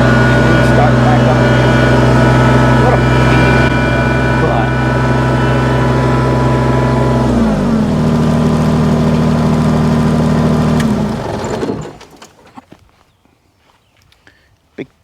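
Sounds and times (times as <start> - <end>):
tractor diesel engine running: 0.0 - 12.5.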